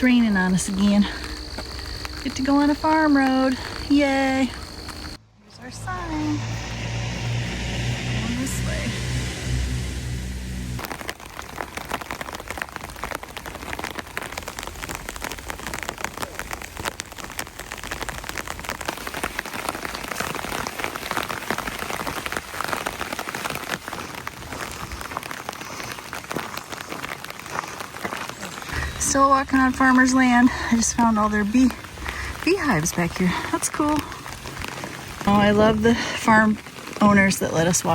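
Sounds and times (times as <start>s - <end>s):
rain drops ticking on a surface: 0.0s - 37.9s.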